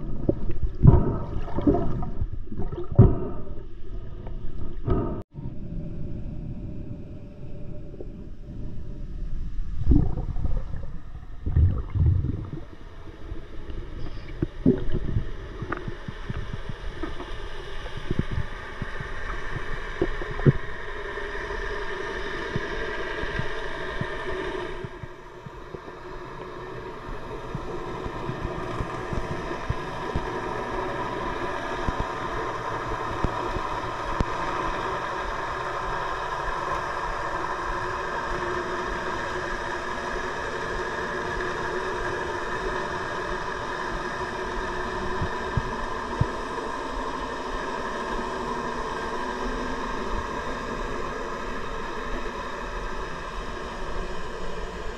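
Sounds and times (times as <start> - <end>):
boat motor droning underwater: 0.0 - 54.9
underwater bubbling: 0.0 - 54.9.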